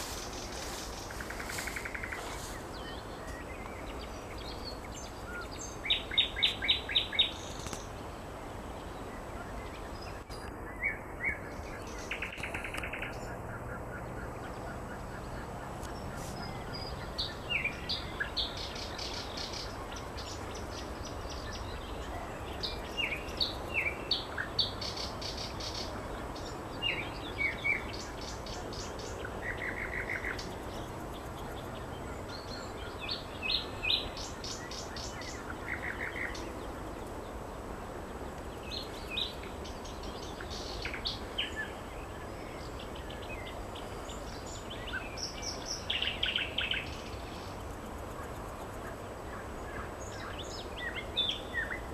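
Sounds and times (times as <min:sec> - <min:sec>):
nightingale singing: 0:00.0 - 0:37.3, 0:38.2 - 0:47.6, 0:48.7 - 0:51.9
low background noise: 0:00.0 - 0:51.9.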